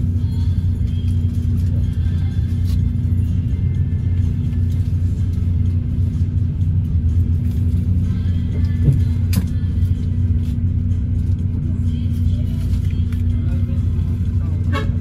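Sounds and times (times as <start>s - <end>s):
bus engine rumble from inside: 0.0s - 15.0s.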